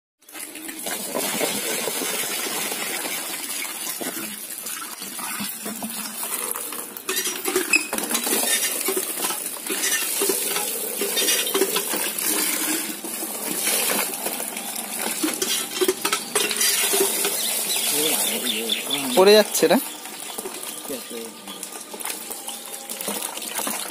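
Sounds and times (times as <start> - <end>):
water splashing: 0.3 - 23.9.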